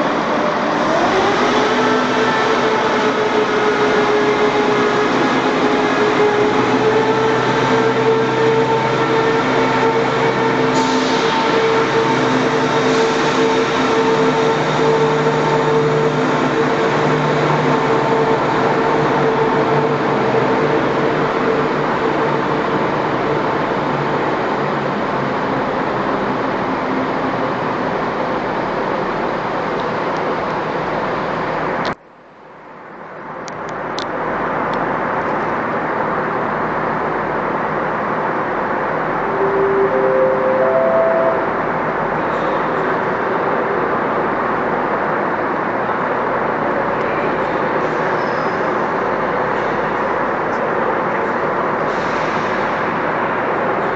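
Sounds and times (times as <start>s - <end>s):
train diesel engines droning: 0.0s - 31.8s, 35.0s - 53.9s.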